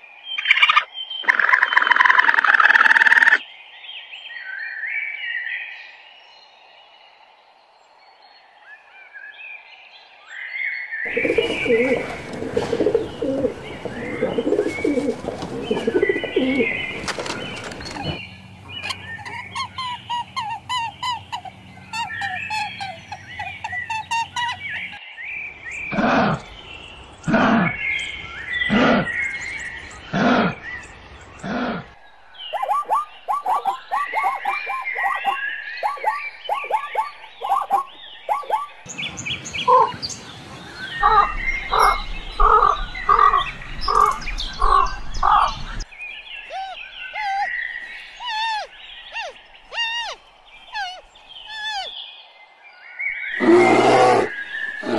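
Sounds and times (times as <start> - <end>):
birds chirping: 0.2 - 4.8, 11.0 - 54.9
birds twittering: 0.2 - 54.9
loud bird calls: 0.3 - 3.4, 11.0 - 54.9.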